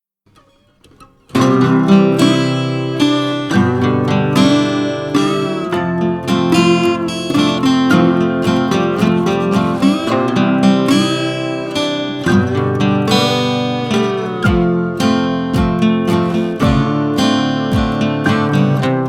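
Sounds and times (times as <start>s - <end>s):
acoustic guitar music: 0.3s - 19.0s.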